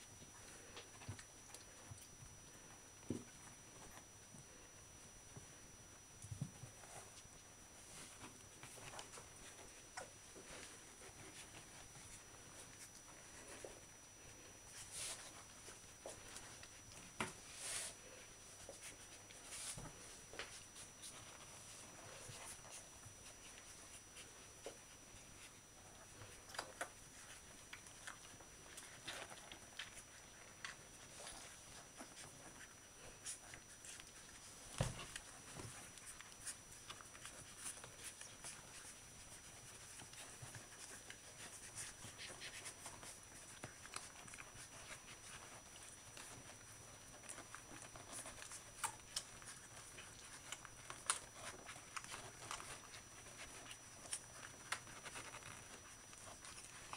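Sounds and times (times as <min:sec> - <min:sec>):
dogs rustling on cloth bedding: 0:06.2 - 0:56.9.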